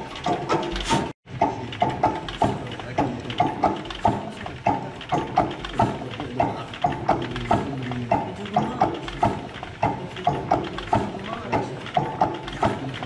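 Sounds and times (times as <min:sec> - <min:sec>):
old stationary engine knocking: 0:00.0 - 0:13.0.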